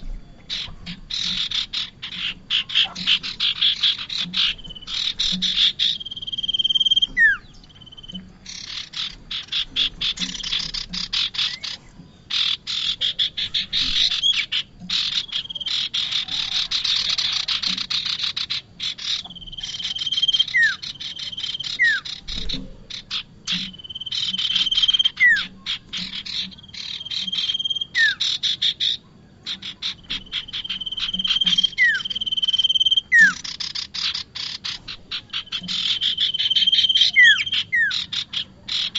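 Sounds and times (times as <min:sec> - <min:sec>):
prinia calling: 0:00.0 - 0:38.9.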